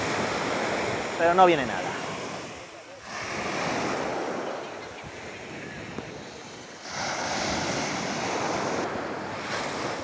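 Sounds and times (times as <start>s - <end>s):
sea surf breaking on beach: 0.0s - 10.0s.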